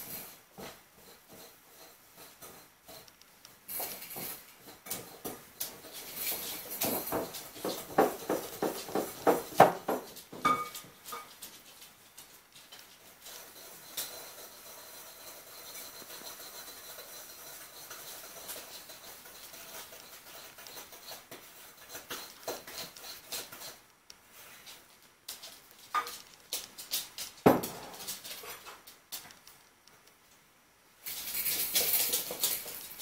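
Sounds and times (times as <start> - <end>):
dog claws clicking on tiles: 2.2 - 24.0, 24.6 - 30.2, 31.0 - 33.0.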